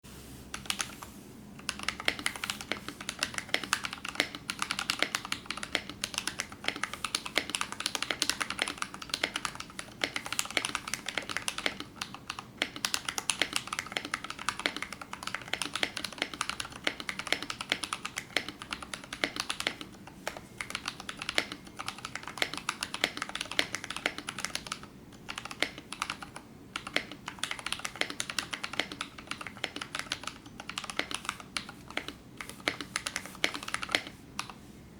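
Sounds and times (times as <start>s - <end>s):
mechanical keyboard typing: 0.5s - 34.6s.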